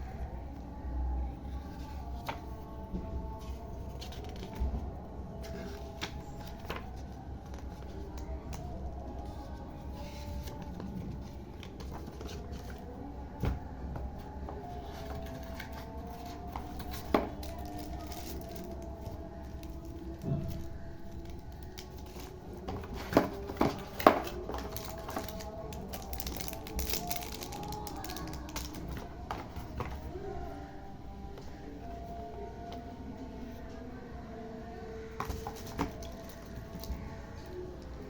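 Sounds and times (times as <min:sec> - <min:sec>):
packaging being handled: 0:01.8 - 0:30.2, 0:35.2 - 0:37.6.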